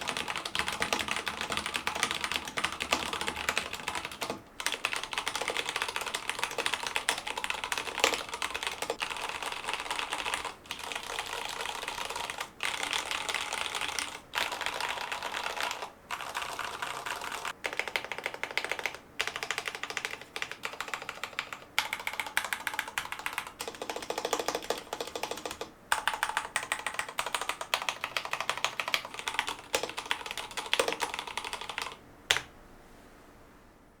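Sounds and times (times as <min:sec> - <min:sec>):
fast mechanical keyboard typing: 0:00.0 - 0:32.4.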